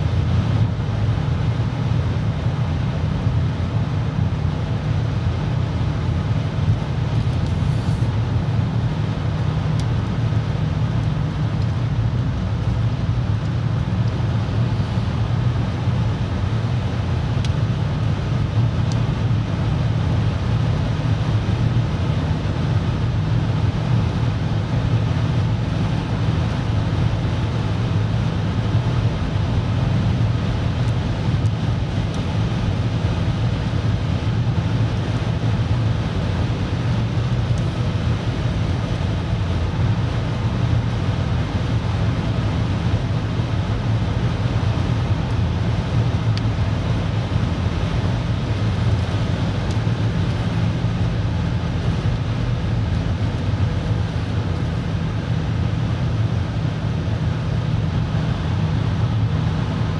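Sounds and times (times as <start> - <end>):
car cabin road and engine rumble: 0.0 - 59.9.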